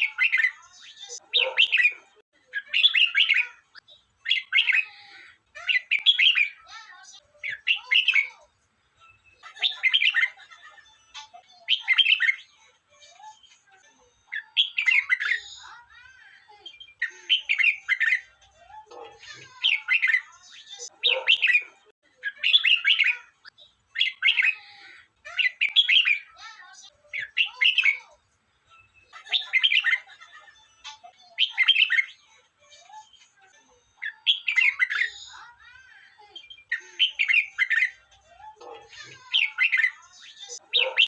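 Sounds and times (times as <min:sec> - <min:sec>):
bird singing warbled phrases: 0:00.0 - 0:41.0.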